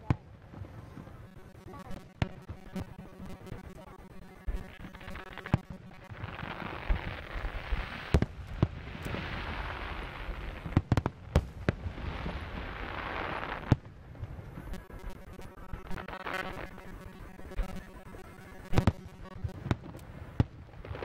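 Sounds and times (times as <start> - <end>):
crackling hiss: 0.1 - 21.0.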